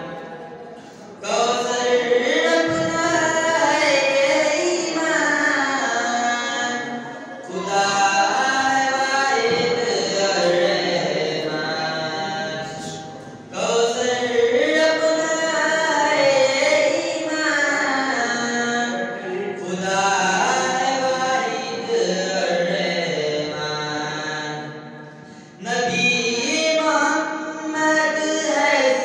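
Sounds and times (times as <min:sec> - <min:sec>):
man singing devotional chant: 0:01.2 - 0:29.0.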